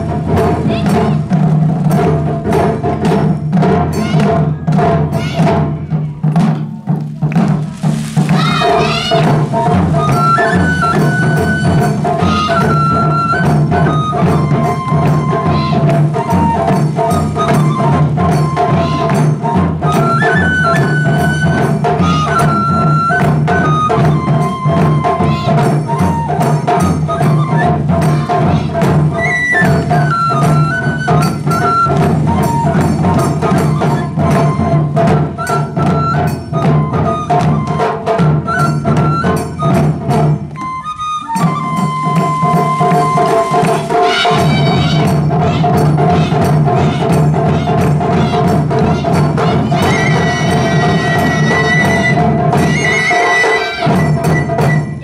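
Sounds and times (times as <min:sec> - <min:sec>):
bamboo flute melody: 0:00.0 - 0:55.0
taiko drums playing fast rhythm: 0:00.0 - 0:55.0.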